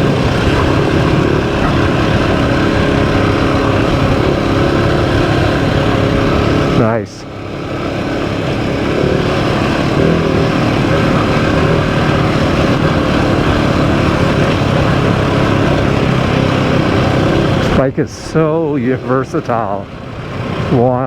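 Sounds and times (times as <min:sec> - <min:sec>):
motorcycle engine pulling: 0:00.0 - 0:21.0.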